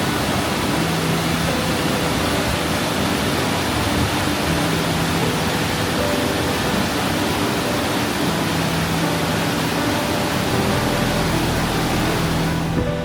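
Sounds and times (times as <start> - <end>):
faint sustained music notes: 0.0 - 13.0
water rushing in a stream: 0.0 - 13.0.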